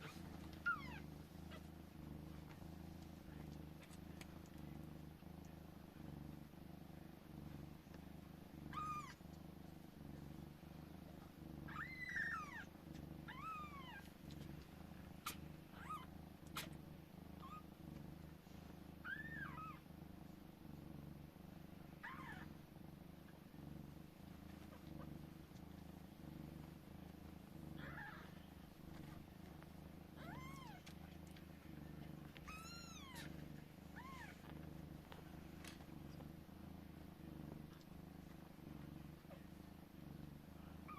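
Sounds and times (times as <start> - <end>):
kittens purring: 0.0 - 40.9.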